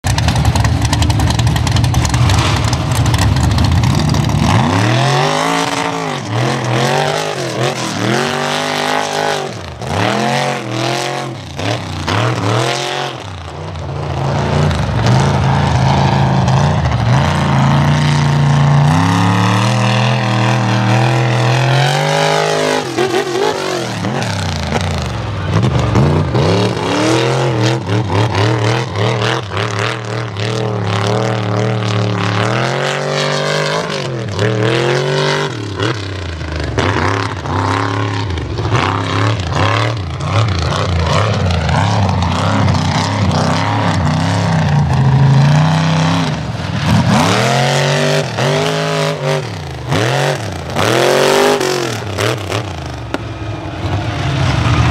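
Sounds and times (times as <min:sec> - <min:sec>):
low engine rumble: 0:00.0 - 0:54.9
truck engine revving: 0:00.0 - 0:54.9.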